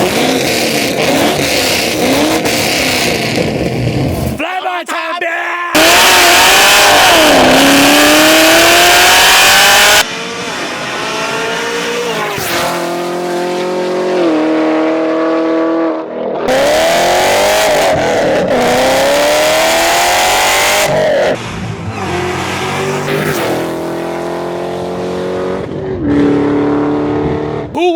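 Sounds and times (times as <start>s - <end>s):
car engine revving: 0.0s - 4.4s, 5.8s - 27.7s.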